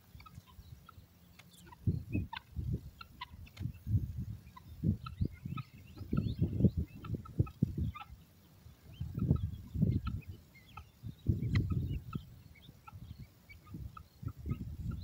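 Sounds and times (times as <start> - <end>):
guinea fowl peeping and chirping: 0.0 - 15.0
low muffled wind buffeting: 1.6 - 15.0.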